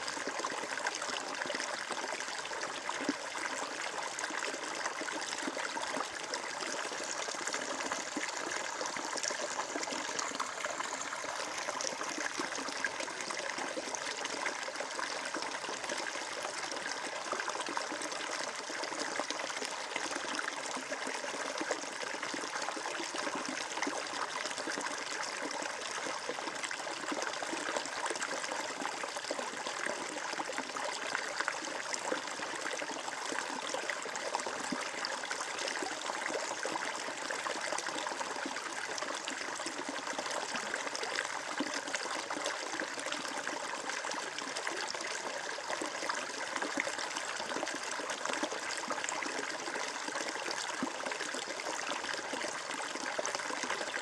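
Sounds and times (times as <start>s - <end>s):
stream trickling: 0.0s - 54.0s.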